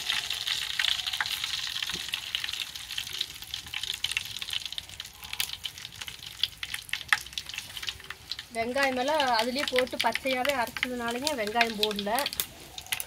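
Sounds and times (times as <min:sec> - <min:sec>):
oil sizzling: 0:00.0 - 0:13.0
seeds popping in hot oil: 0:00.0 - 0:13.0.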